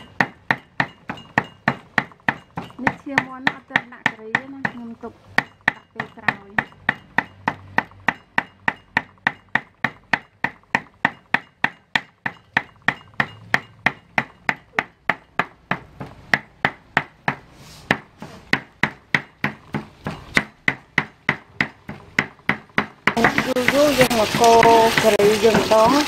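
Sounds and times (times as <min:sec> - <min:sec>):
cleaver chopping on wooden board: 0:00.0 - 0:26.0.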